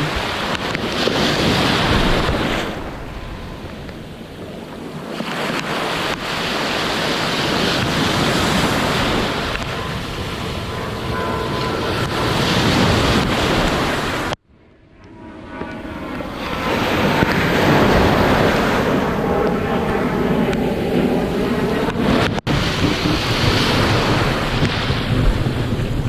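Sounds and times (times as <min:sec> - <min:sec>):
ocean surf breaking: 0:00.0 - 0:14.4, 0:16.2 - 0:26.0
wind buffeting microphone: 0:00.0 - 0:14.4, 0:15.1 - 0:26.0.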